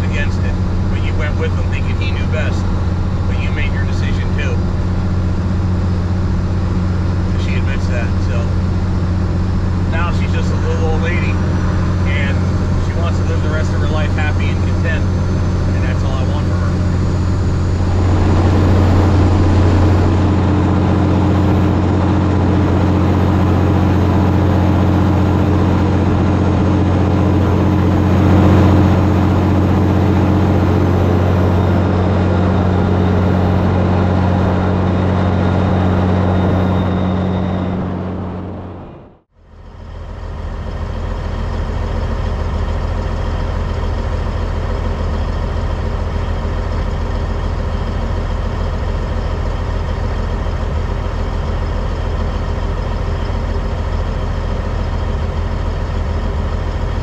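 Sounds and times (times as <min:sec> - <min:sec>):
diesel engine idling: 0:00.0 - 0:57.0
diesel truck engine droning: 0:00.0 - 0:57.0.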